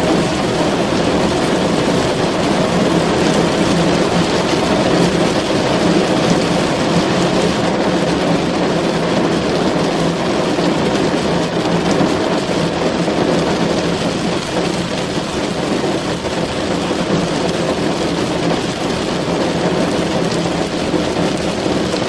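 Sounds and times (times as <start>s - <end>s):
rain drumming on car roof: 0.0s - 22.0s.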